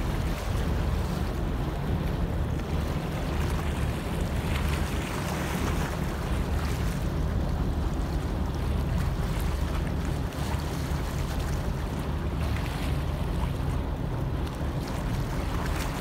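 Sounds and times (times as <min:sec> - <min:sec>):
choppy water washing: 0:00.0 - 0:16.0.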